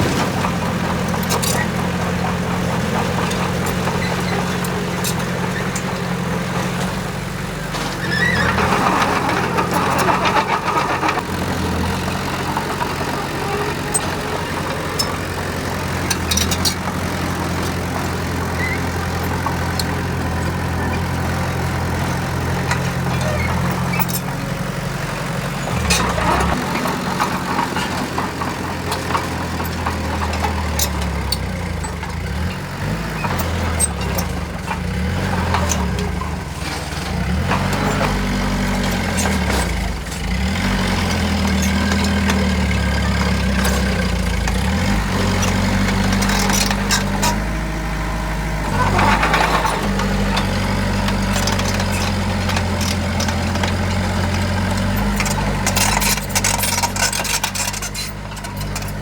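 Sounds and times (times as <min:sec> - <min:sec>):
heavy diesel engine running: 0:00.0 - 0:59.0
machine working under load: 0:00.0 - 0:59.0.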